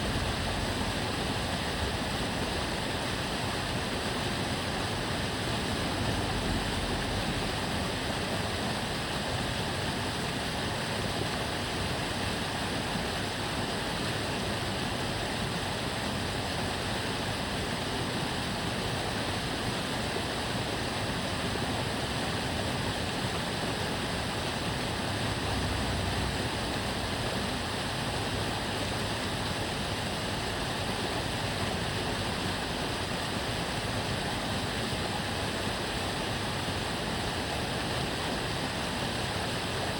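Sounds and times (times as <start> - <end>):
water flowing in a canal: 0.0 - 39.9.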